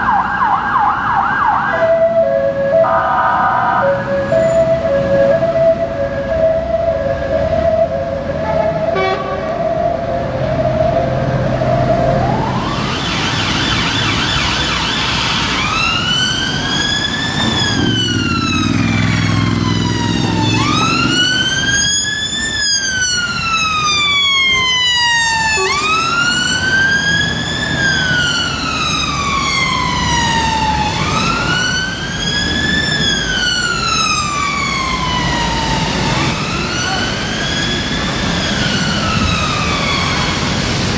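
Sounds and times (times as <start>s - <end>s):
police siren wailing: 0.0s - 40.9s
road traffic: 0.0s - 40.9s.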